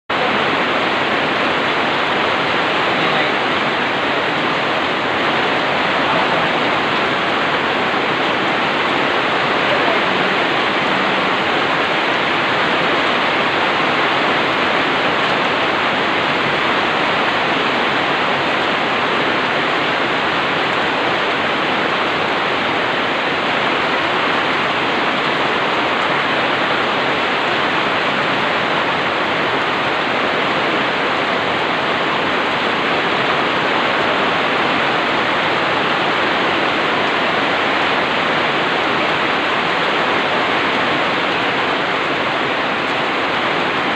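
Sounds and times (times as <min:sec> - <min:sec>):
rain falling on a roof: 0:00.1 - 0:43.9.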